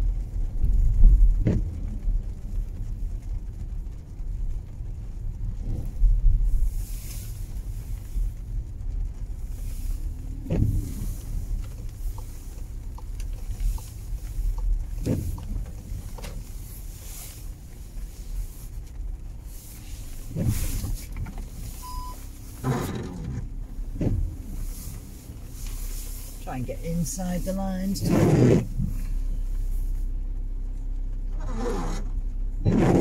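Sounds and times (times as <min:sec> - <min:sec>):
car engine and tyre rumble: 0:00.0 - 0:33.0
windscreen wiper sweeping: 0:00.0 - 0:33.0.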